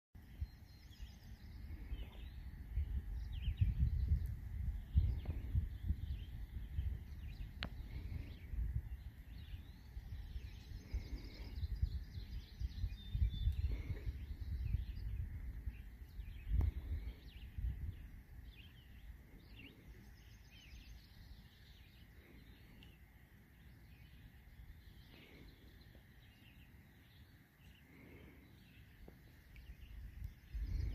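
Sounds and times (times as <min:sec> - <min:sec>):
low rumble on microphone: 0:00.2 - 0:30.9
songbirds chirping: 0:00.2 - 0:30.9.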